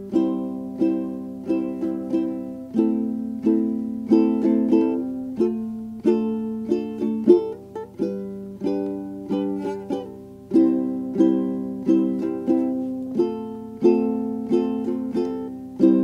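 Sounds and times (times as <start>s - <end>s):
plucked-string tune in chords: 0.0s - 16.0s.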